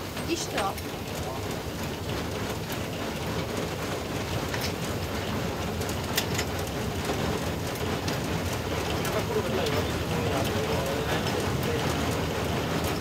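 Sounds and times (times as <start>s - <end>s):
steam locomotive rumble and hiss: 0.0s - 13.0s.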